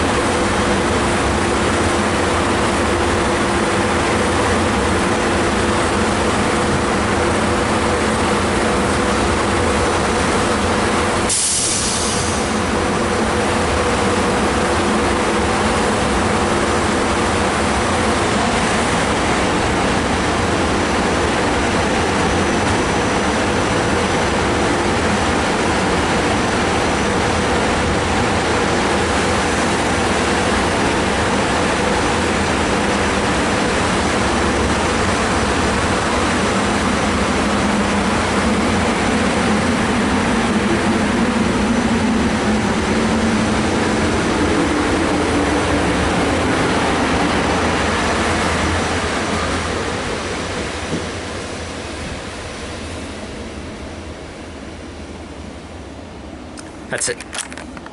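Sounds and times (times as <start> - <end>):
wheels rumbling on rail: 0.0 - 57.9.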